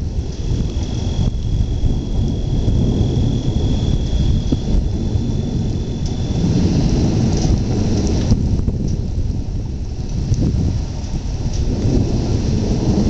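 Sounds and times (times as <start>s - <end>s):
faint rain hiss: 0.0s - 13.0s
low rumbling thunder: 0.0s - 13.0s.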